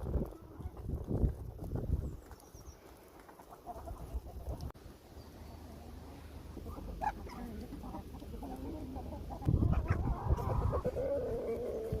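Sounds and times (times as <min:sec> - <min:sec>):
chickens clucking: 0:00.0 - 0:04.8, 0:05.4 - 0:12.0.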